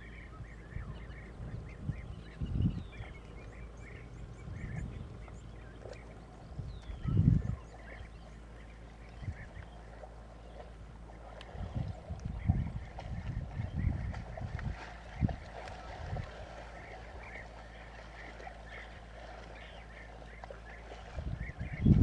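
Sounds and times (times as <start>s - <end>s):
birds chirping: 0.0s - 22.0s
low rumbles: 0.0s - 22.0s.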